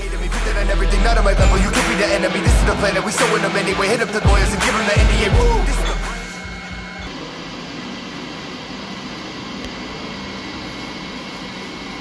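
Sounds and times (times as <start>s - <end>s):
blower fan running: 0.0s - 12.0s.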